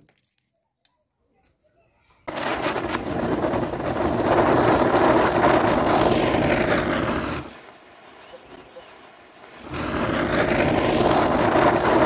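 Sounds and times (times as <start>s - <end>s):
firework wheel hissing and whirring: 2.2s - 12.0s.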